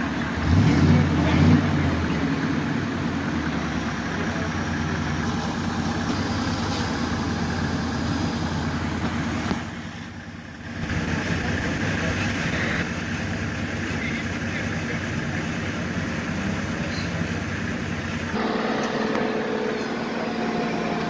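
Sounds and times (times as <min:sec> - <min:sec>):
truck engines running at low revs: 0:00.0 - 0:21.0.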